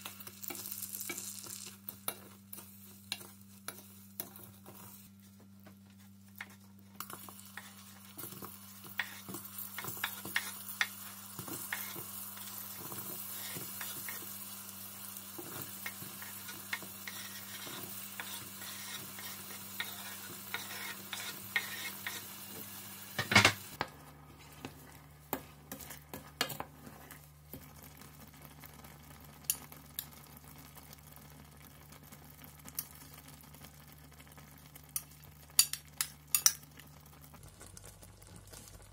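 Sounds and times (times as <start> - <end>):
caramel sizzling in saucepan: 0.0 - 38.9.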